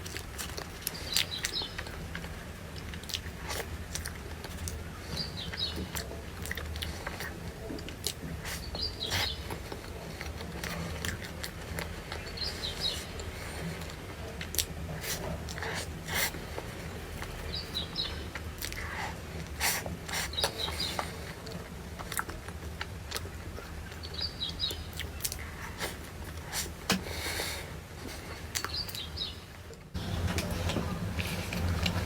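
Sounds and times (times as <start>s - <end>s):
chewing with crisp crunches: 0.0s - 29.9s
steady low hum: 0.0s - 32.0s.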